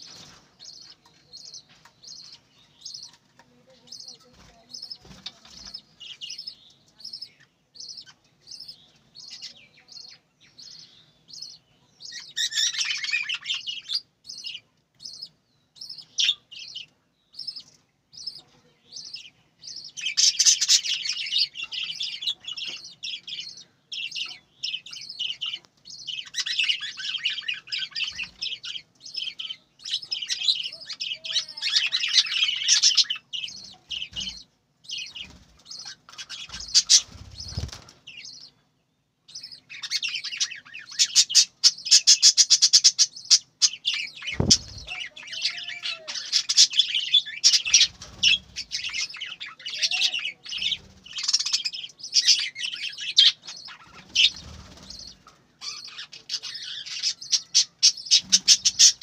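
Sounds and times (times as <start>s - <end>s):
budgerigars chirping: 0.0s - 38.6s, 39.3s - 59.0s.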